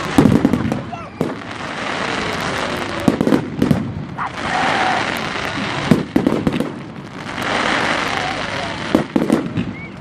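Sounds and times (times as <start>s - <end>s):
fireworks cracking and banging: 0.0s - 10.0s
steady hiss: 0.8s - 9.6s.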